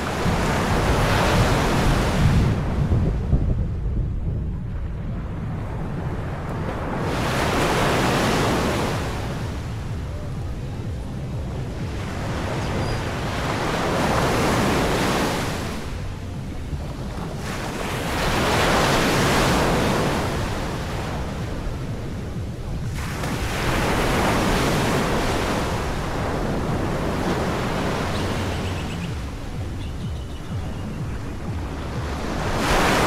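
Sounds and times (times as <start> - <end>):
waves breaking on beach: 0.0 - 2.8, 5.9 - 29.8, 30.4 - 33.0
wind rumble on microphone: 0.0 - 33.0.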